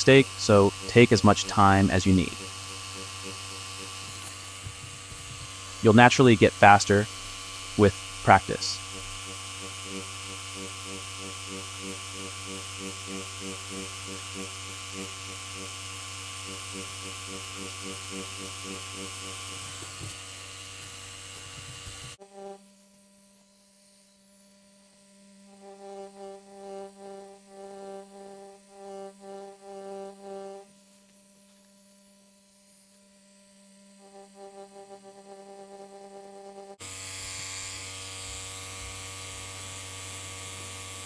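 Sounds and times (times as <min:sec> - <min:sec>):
tattoo machine humming: 0:00.0 - 0:41.0.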